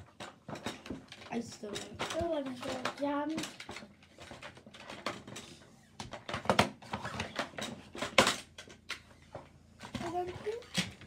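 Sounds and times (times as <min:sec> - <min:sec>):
plastic toy clicking and clattering: 0:00.0 - 0:09.0, 0:09.8 - 0:11.0.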